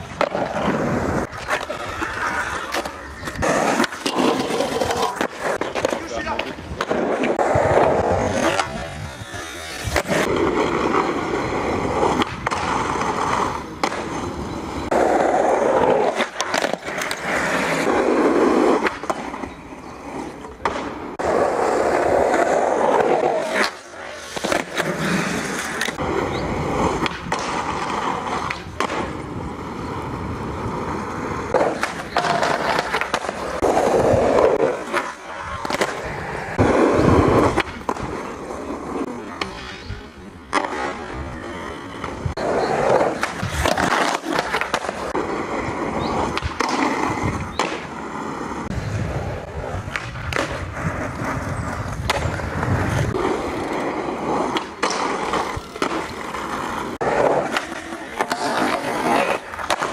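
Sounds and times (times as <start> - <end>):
skateboard clacks: 0.0 - 59.9
skateboard wheels rolling on concrete: 0.0 - 59.9.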